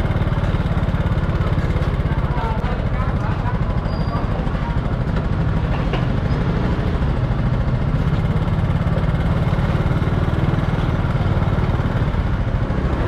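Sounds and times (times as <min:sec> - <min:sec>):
small motorbike engine idling: 0:00.0 - 0:13.0.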